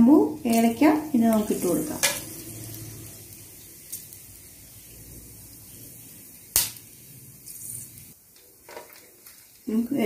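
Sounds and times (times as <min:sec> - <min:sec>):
spices sizzling in hot oil: 0:00.0 - 0:10.0.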